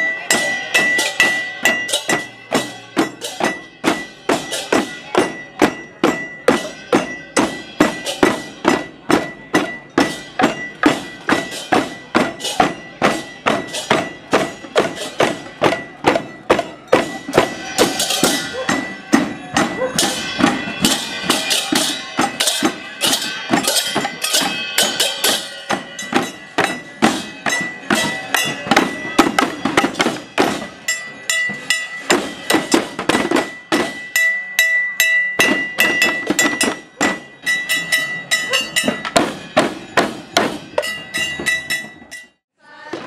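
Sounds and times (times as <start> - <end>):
hand cymbals: 0.0 - 42.4
drums: 0.0 - 43.0.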